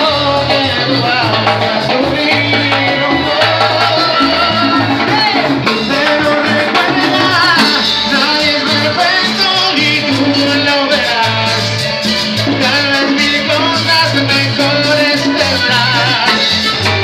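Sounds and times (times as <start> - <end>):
latin dance band playing: 0.0 - 17.0
man singing into microphone: 0.0 - 17.0.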